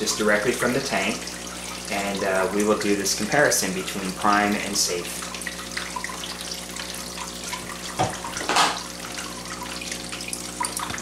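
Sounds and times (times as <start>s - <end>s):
small drips: 0.0s - 11.0s
water trickling and bubbling: 0.0s - 11.0s.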